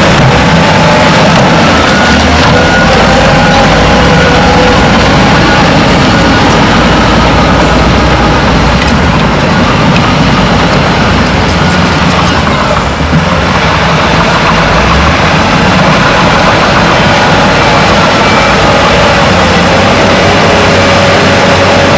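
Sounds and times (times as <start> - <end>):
heavy machinery diesel engines: 0.0 - 21.9.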